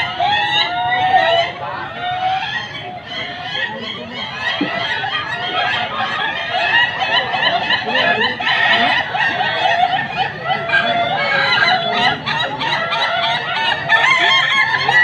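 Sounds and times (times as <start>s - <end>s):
roosters crowing: 0.0s - 15.0s.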